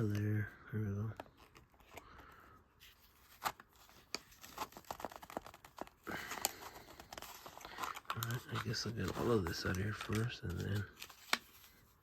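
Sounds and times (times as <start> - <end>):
packaging rustling and crinkling: 1.0 - 12.0.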